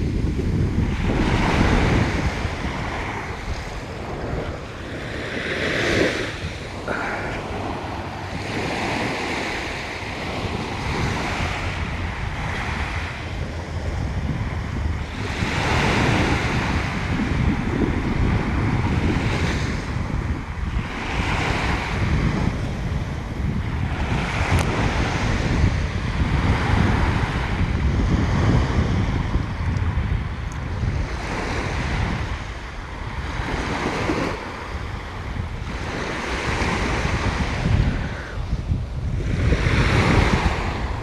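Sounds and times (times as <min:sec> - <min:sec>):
ocean waves breaking on shore: 0:00.0 - 0:41.0
wind buffeting microphone: 0:00.0 - 0:41.0.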